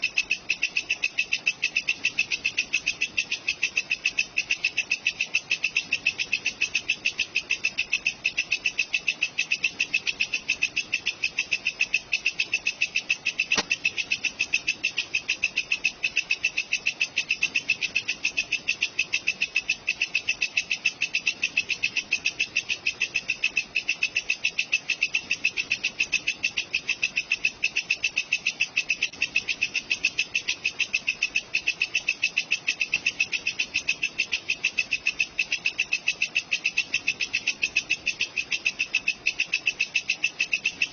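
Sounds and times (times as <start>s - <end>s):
katydid shrill chirping: 0.0s - 40.9s.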